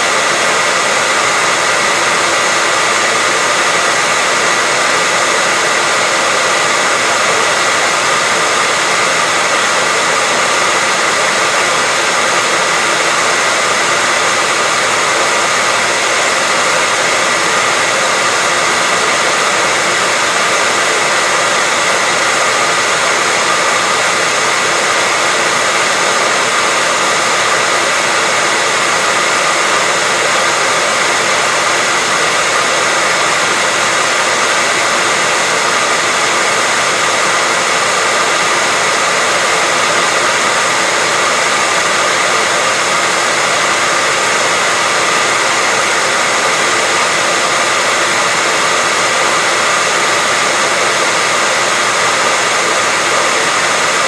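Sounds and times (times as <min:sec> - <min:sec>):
hairdryer running: 0:00.0 - 0:54.0.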